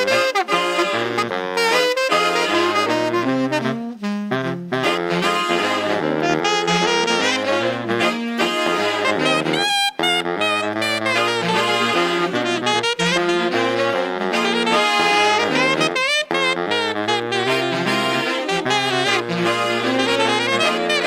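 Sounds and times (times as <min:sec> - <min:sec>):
wavering lead melody: 0:00.0 - 0:21.0.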